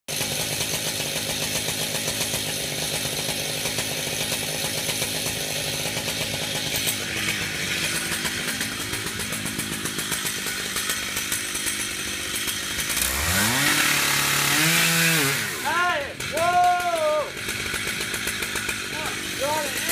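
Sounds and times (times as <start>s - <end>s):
chainsaw running: 0.1s - 19.9s.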